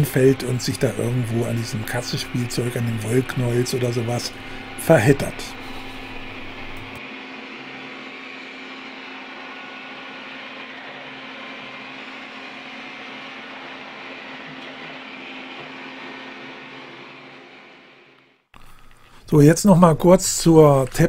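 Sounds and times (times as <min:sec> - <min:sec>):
robot vacuum whirring: 0:00.0 - 0:18.3.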